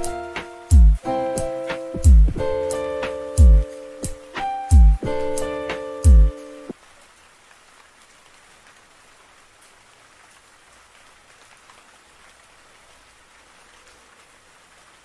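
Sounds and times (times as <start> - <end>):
faint steady rain: 0.0 - 15.0.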